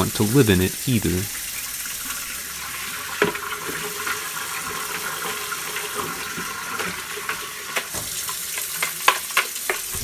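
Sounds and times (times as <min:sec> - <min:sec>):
tap water splashing: 0:01.8 - 0:10.0.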